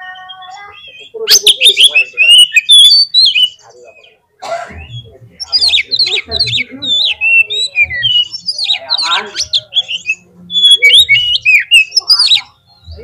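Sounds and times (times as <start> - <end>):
bird singing whistled phrases: 0.0 - 4.1, 4.8 - 13.0.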